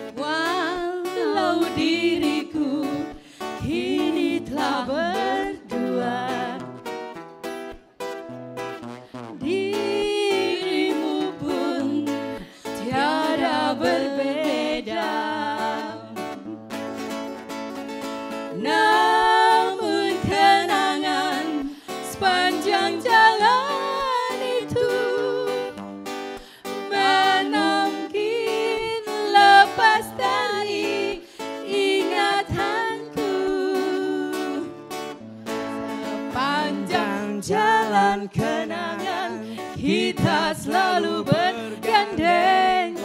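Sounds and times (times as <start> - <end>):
women singing a pop ballad: 0.0 - 6.9, 9.3 - 16.5, 18.4 - 43.0
acoustic guitar: 0.0 - 43.0.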